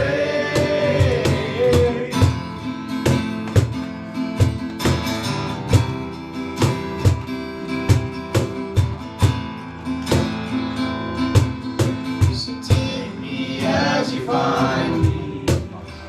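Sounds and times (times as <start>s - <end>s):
steady drum beat: 0.0s - 10.5s, 11.3s - 13.1s, 14.7s - 15.9s
acoustic guitar strumming: 0.0s - 16.0s.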